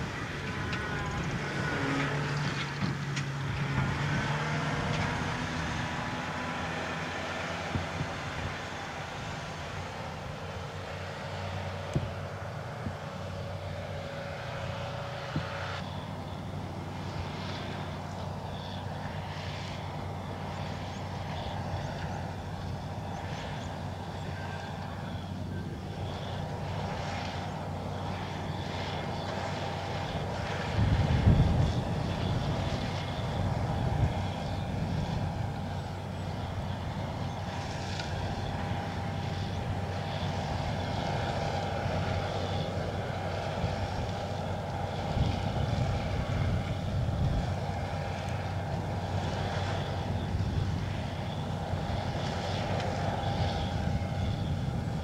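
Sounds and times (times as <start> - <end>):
potato harvester diesel running: 0.0 - 55.0
tractor passing: 0.0 - 55.0.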